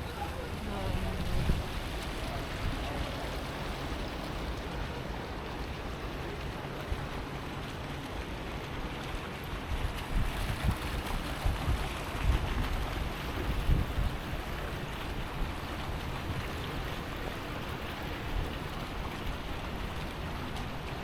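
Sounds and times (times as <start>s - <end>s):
wind buffeting microphone: 0.0s - 5.6s, 9.6s - 21.0s
steady rain: 0.0s - 21.0s.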